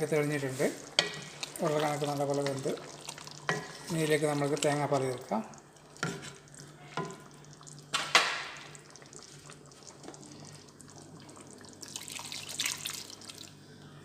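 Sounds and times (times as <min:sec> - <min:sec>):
liquid pouring and splashing: 0:00.0 - 0:13.5.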